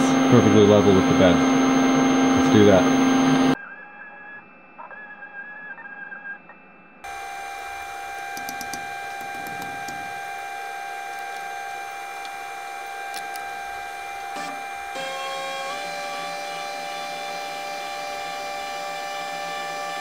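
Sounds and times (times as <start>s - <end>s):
electric motor whining: 0.0s - 3.6s, 7.0s - 20.0s.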